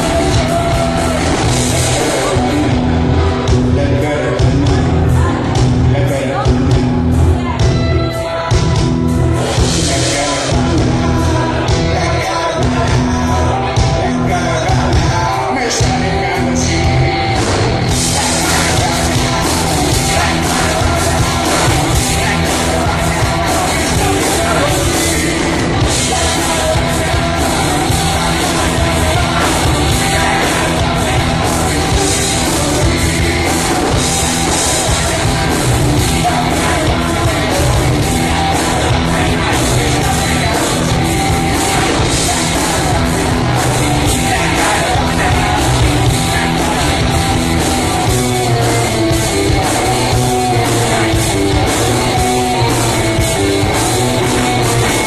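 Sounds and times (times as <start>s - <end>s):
drum kit beat: 0.0s - 55.0s
electric bass: 0.0s - 55.0s
electric guitar: 0.0s - 55.0s
person singing: 0.0s - 55.0s.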